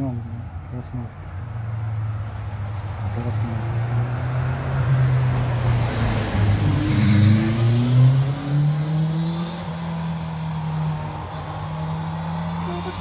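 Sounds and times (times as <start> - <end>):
vehicle driving past: 1.8 - 13.0.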